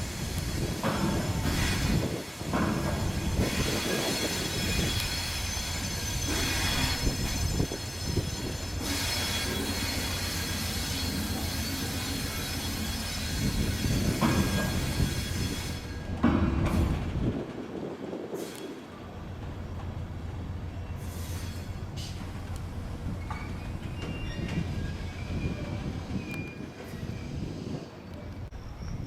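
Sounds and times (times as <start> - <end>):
steel wheels squealing on rails: 0.0 - 29.0
train rumbling over tracks: 0.0 - 29.0.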